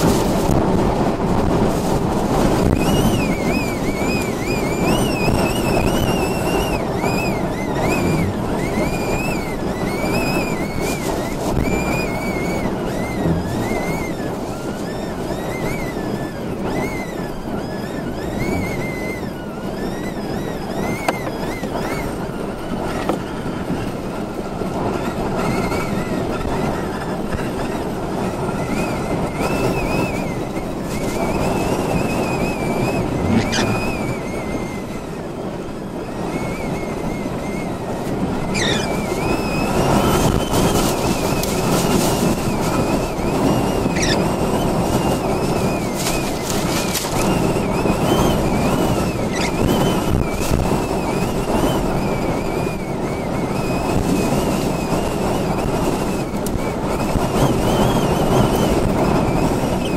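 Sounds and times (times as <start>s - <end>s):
gusting wind rushing: 0.0s - 59.9s
high wavering wind whistle: 0.0s - 59.9s.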